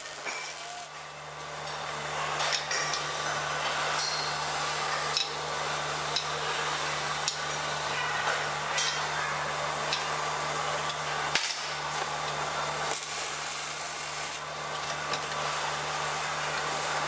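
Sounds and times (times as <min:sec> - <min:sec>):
workshop equipment hum: 0:00.0 - 0:17.0.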